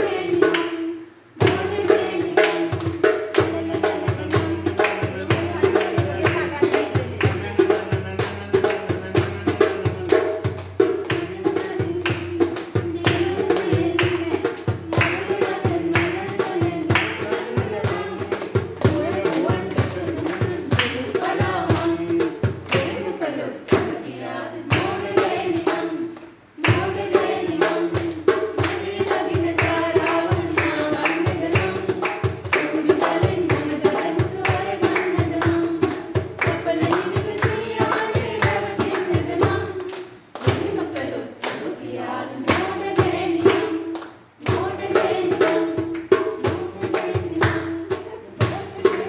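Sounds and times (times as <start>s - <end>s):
woman singing: 0.0s - 8.0s, 10.8s - 49.0s
hand drum: 0.0s - 41.1s, 42.4s - 49.0s
people clapping along: 0.0s - 49.0s.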